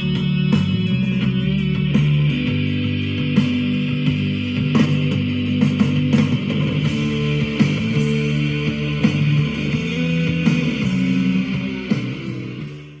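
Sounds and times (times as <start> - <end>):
guitar music from small radio: 0.0 - 13.0.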